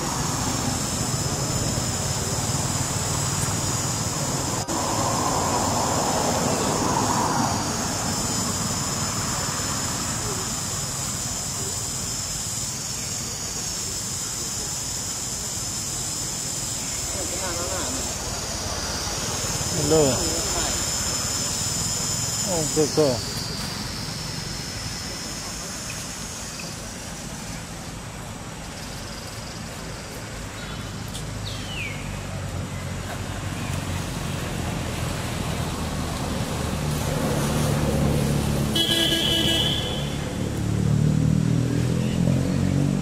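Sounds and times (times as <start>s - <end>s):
distant traffic rumble: 0.0s - 43.0s
high-pitched hiss: 0.0s - 43.0s.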